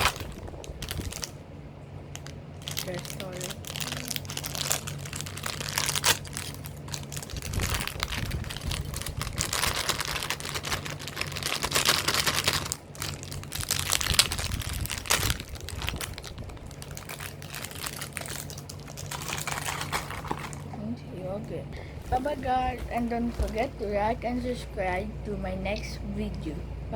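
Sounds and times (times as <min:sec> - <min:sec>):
plastic packaging crinkling: 0:00.0 - 0:01.4, 0:02.1 - 0:20.8, 0:21.9 - 0:24.0.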